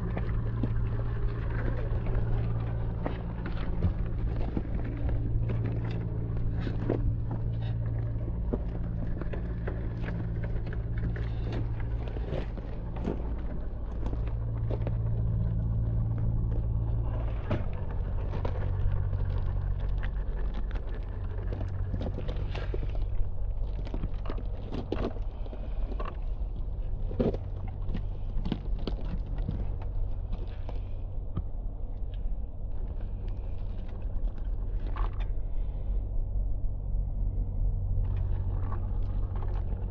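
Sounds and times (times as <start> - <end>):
small clicks and crackles: 0.0 - 36.0, 37.9 - 39.9.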